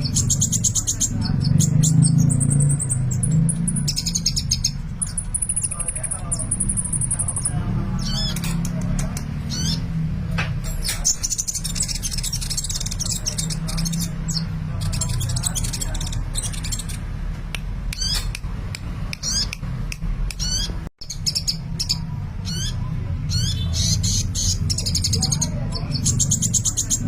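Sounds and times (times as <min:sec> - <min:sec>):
bird chirps and trills: 0:00.0 - 0:17.2, 0:17.8 - 0:27.0.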